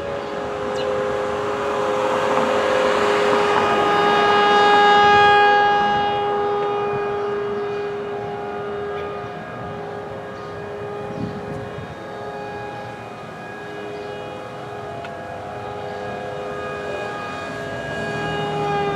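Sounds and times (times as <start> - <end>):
warning siren steady tone: 0.0 - 18.9.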